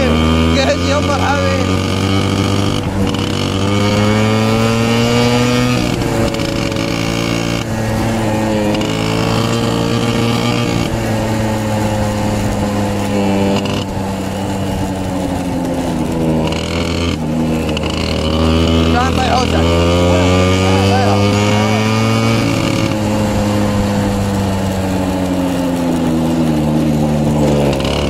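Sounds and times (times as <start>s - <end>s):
small motorcycle engine running: 0.0s - 28.0s.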